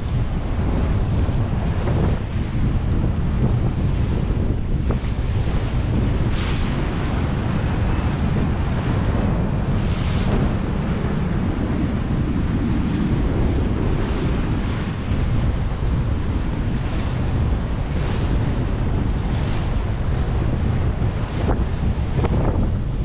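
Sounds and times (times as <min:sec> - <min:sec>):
water rushing along hull: 0:00.0 - 0:23.0
wind buffeting microphone: 0:00.0 - 0:23.0.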